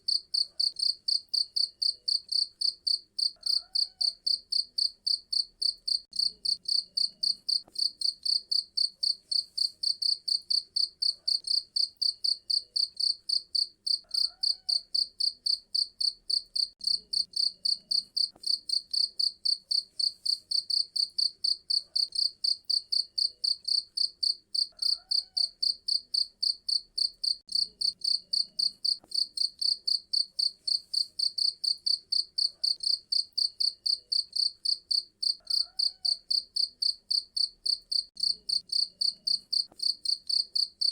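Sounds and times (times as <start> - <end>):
cricket chirping: 0.1 - 40.9.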